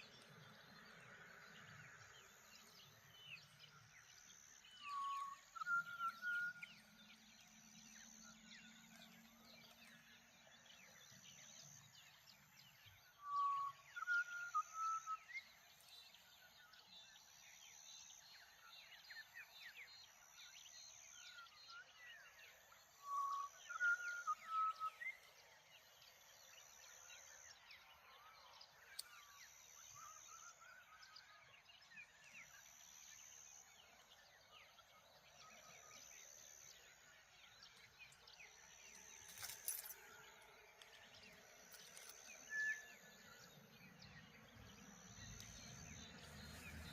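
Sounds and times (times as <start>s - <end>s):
bird chorus chirping: 0.0s - 46.9s.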